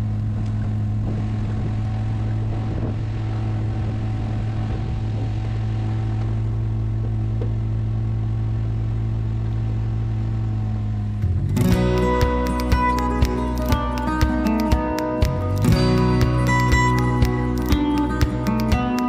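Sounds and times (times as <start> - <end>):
pickup truck engine droning: 0.0 - 19.0.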